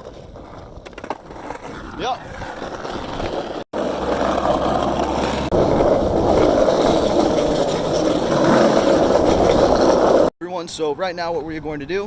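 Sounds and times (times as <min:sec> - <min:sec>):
wheels rolling on pavement: 0:00.0 - 0:10.3.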